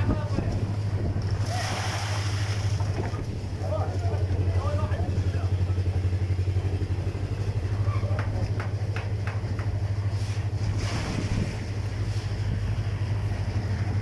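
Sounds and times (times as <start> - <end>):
engine running with low throb: 0.0 - 14.0.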